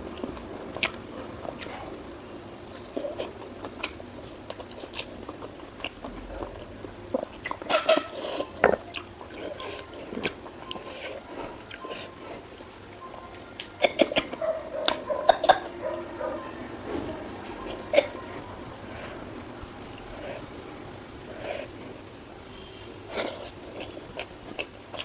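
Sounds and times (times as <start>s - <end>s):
close chewing with mouth smacks: 0.0s - 22.0s, 23.0s - 25.0s.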